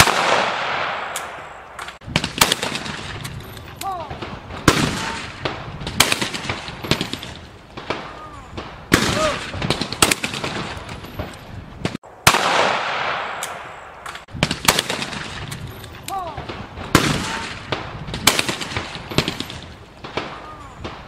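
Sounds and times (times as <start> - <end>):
shotgun shots: 0.0 - 3.4, 4.0 - 15.6, 16.3 - 21.0.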